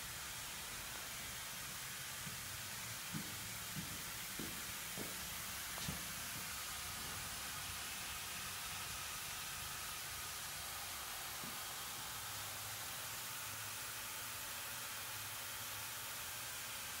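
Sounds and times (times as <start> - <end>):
ventilation air hiss: 0.0 - 17.0.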